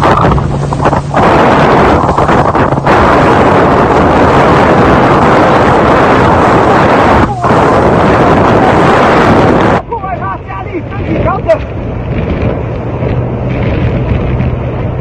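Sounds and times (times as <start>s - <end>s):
low engine hum: 0.0s - 15.0s
wind buffeting the microphone: 0.0s - 15.0s.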